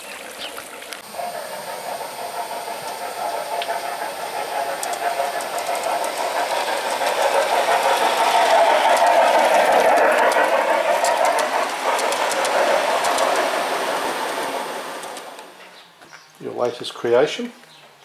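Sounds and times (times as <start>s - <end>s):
wheels clicking on rails: 0.0s - 15.8s
model train motor whine: 0.9s - 15.6s.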